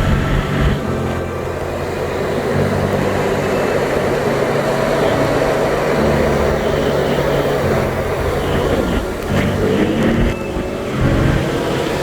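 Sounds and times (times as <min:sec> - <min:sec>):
jet ski engine running: 0:00.0 - 0:12.0
rushing noise: 0:00.0 - 0:12.0.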